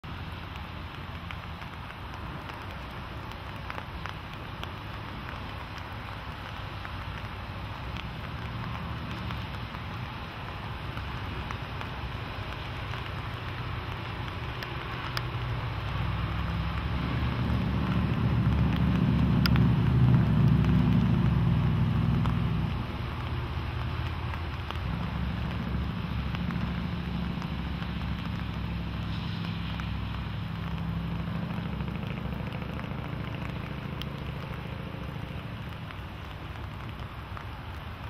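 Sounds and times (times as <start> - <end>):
water rushing down riverbed: 0.0 - 38.0.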